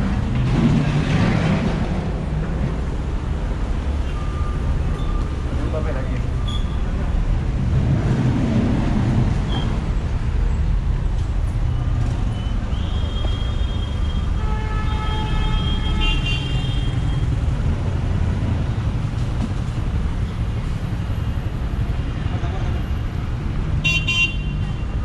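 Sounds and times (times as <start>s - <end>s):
rumble of passing cars and buses: 0.0s - 25.0s.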